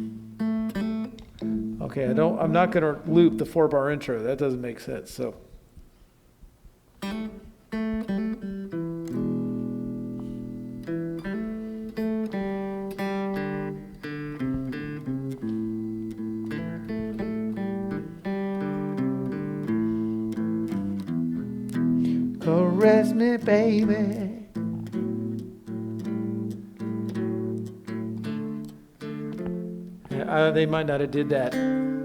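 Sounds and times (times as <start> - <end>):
electric guitar blues: 0.0 - 4.5, 5.5 - 32.0.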